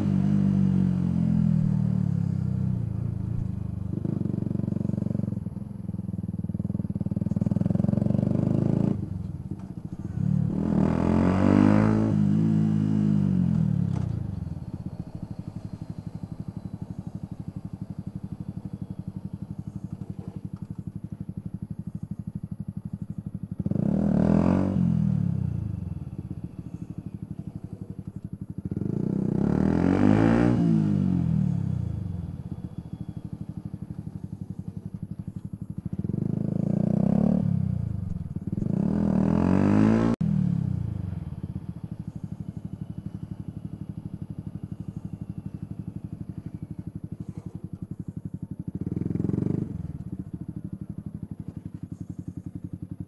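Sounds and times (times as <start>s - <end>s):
motorcycle idling: 0.0s - 11.2s, 12.1s - 30.0s, 30.6s - 39.6s, 40.2s - 53.0s
motorcycle engine revving: 0.0s - 53.0s.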